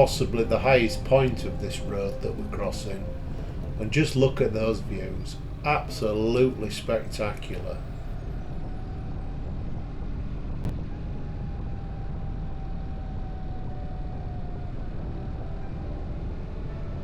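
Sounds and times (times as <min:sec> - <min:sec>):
faint whine: 0:00.0 - 0:17.0.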